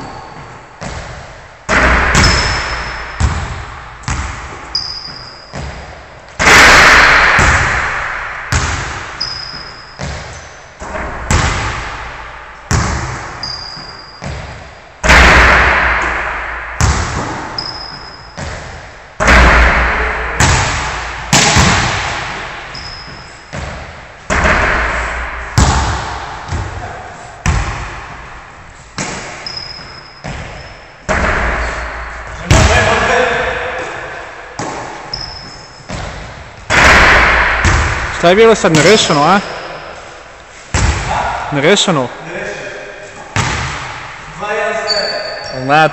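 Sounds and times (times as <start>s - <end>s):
basketballs bouncing on hardwood: 0.0s - 6.8s, 8.5s - 28.3s, 29.0s - 34.0s, 34.6s - 39.8s, 40.7s - 41.4s, 43.4s - 44.0s
ball hitting backboard and rim: 0.0s - 39.9s, 40.7s - 41.4s, 43.3s - 44.2s.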